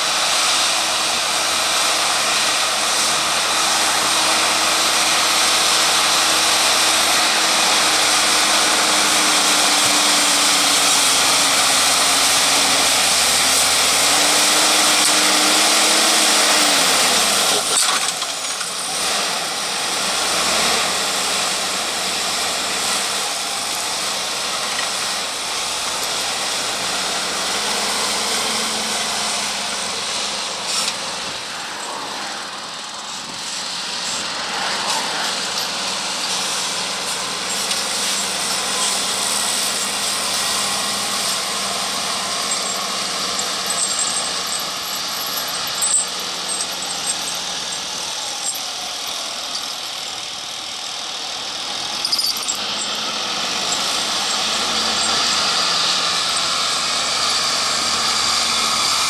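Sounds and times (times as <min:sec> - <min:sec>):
tractor diesel engines droning: 0:00.0 - 0:59.0.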